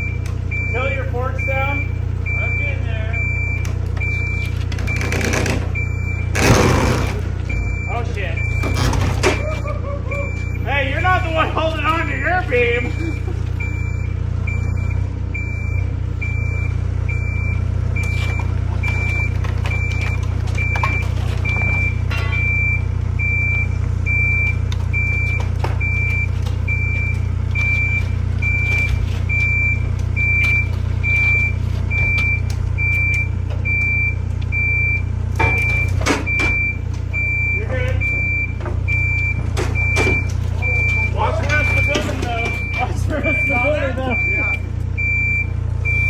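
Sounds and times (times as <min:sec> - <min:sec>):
diesel machine running: 0:00.0 - 0:46.0
reversing alarm beeping: 0:00.0 - 0:46.0.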